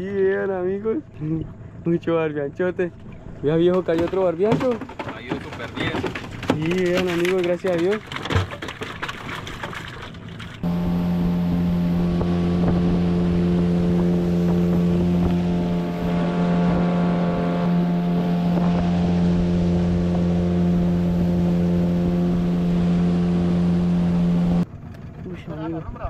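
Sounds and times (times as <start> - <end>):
outboard motor humming: 0.0 - 25.9.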